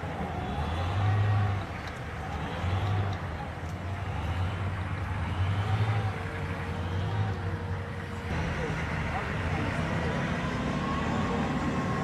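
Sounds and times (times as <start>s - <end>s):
heavy vehicle engines droning: 0.0s - 12.0s.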